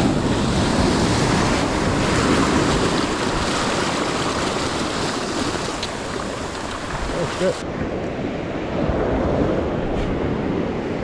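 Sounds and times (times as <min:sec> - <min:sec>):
ocean surf washing onto beach: 0:00.0 - 0:11.0.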